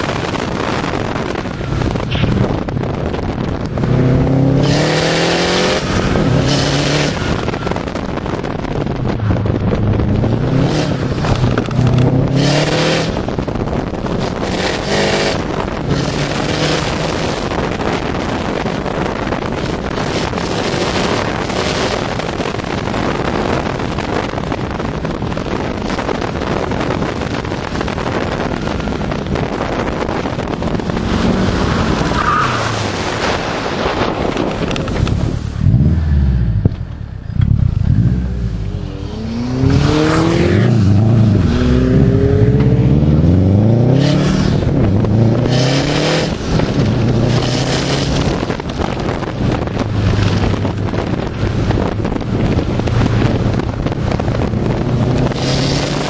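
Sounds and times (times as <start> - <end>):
car engine revving: 0.0 - 56.0
wind and road noise: 0.0 - 56.0.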